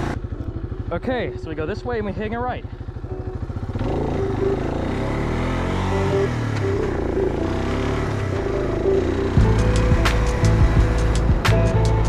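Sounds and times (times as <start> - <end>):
atv engine: 0.0 - 12.0.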